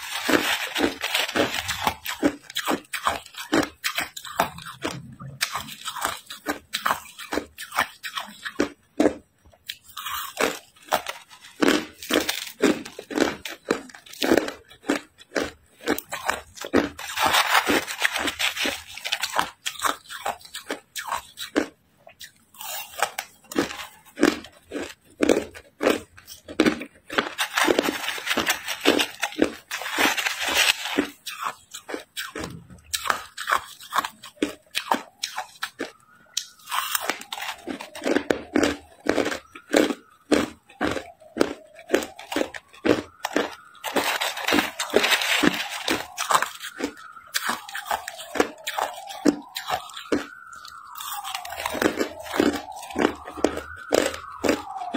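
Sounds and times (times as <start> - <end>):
crushed ice crunching in mouth: 0.0 - 54.9.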